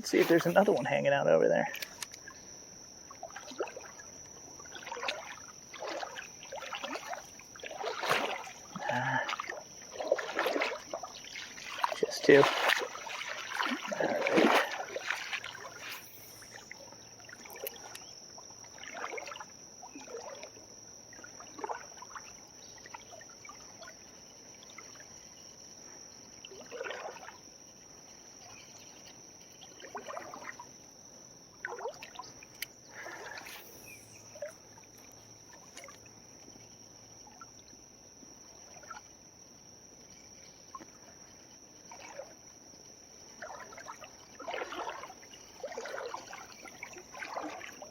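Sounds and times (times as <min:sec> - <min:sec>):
creek trickling: 0:00.0 - 0:39.2, 0:40.4 - 0:47.9.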